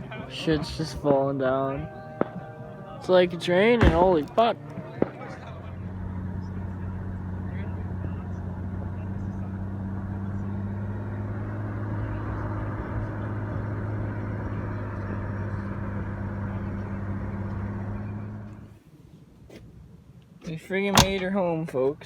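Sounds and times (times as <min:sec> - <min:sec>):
truck engine humming: 0:00.0 - 0:18.8, 0:20.9 - 0:21.4.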